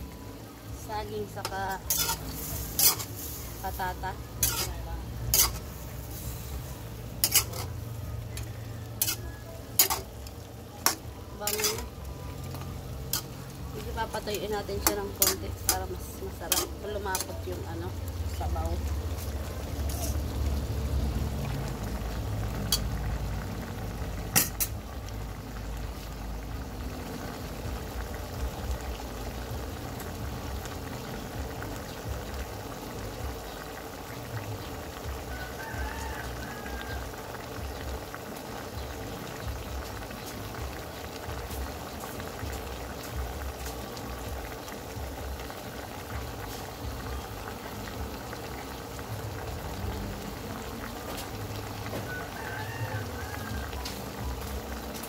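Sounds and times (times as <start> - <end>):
sauce bubbling in a metal pan: 0.0 - 55.0.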